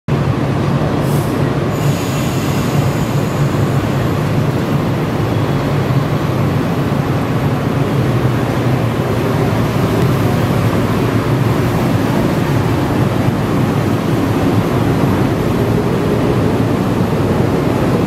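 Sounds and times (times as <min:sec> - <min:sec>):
electric train humming: 0:00.2 - 0:18.0.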